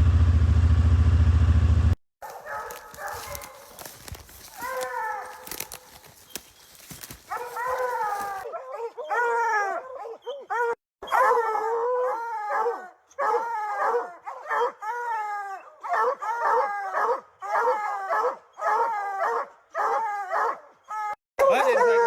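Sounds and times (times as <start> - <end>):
hounds baying and howling: 2.2 - 22.0.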